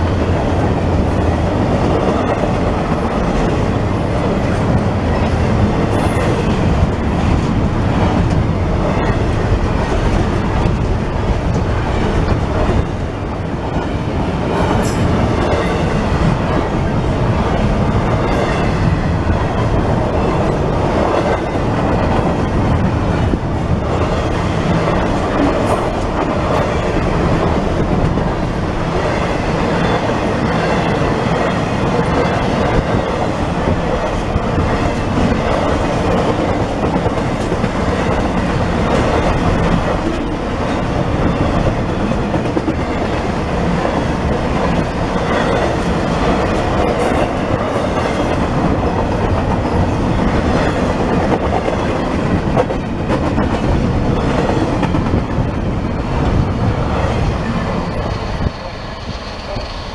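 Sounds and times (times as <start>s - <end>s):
steel wheels on rails: 0.0s - 59.9s
train cars clattering by: 0.0s - 59.9s.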